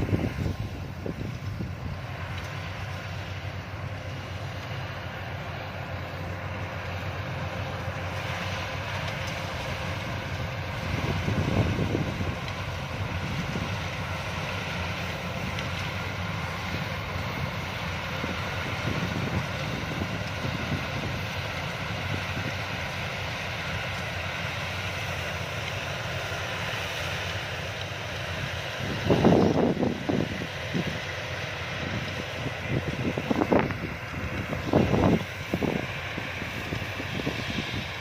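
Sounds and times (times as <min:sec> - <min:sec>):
combine harvester engine and machinery: 0:00.0 - 0:38.0.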